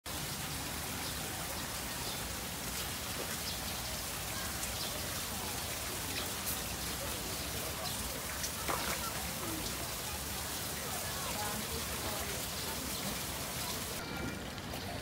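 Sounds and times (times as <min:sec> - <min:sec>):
falling water hissing: 0:00.1 - 0:14.5.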